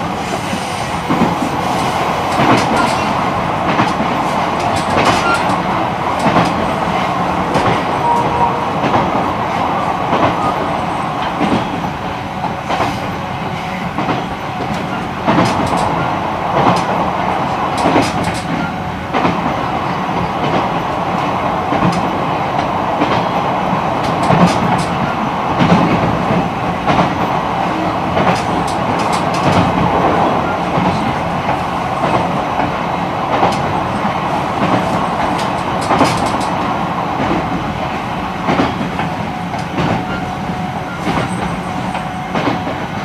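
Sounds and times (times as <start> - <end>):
train wheels running on rails: 0.0 - 43.0.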